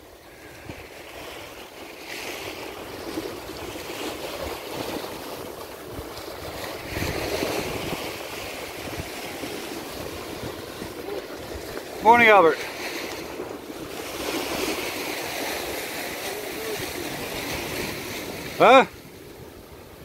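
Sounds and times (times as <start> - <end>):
sea waves breaking on rocks: 0.0 - 20.0.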